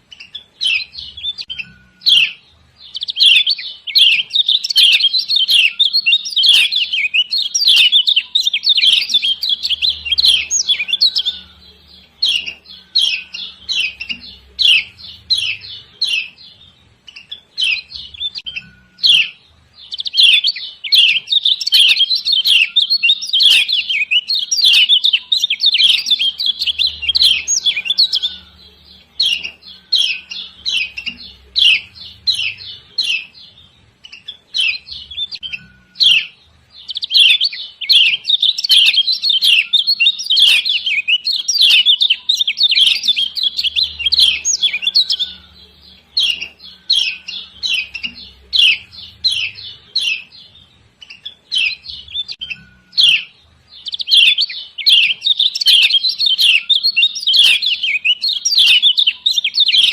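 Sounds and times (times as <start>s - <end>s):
bird giving sharp high chirps: 0.0s - 33.4s, 34.0s - 59.9s.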